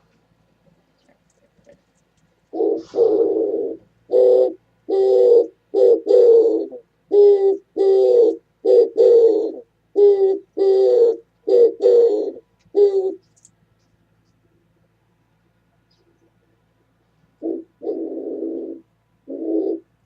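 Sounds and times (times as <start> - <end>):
dove cooing: 0.8 - 13.4, 15.8 - 20.0.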